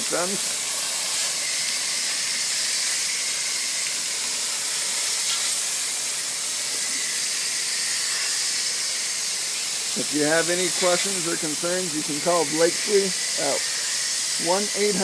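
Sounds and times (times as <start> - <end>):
water spray hissing: 0.0 - 15.0.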